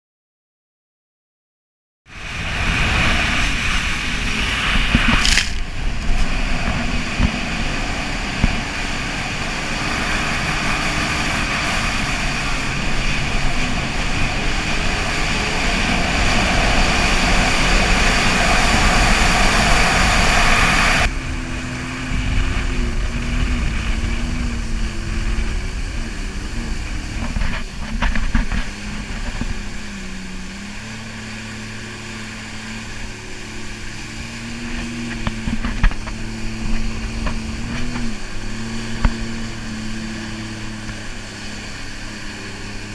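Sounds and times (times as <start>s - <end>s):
wind: 2.0s - 42.9s
jet ski engine drone: 2.1s - 42.9s
rushing water spray: 2.1s - 42.9s.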